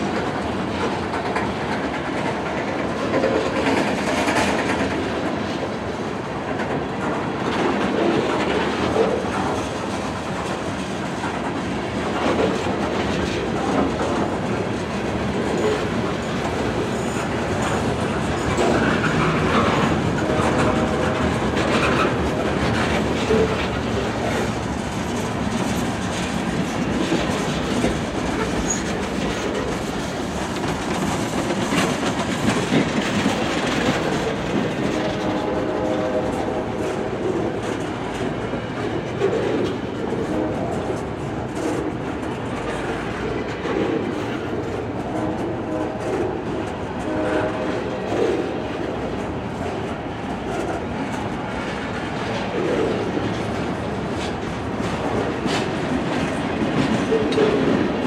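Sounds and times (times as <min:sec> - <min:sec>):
freight train wheels clattering: 0:00.0 - 0:58.0.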